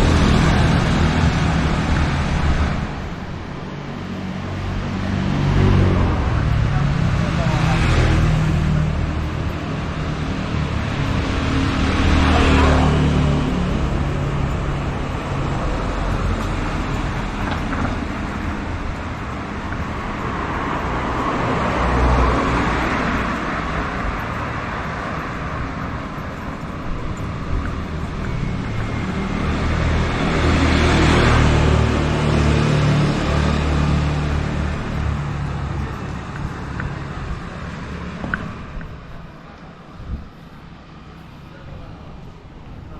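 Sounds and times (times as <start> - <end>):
vehicles passing: 0.0 - 42.9.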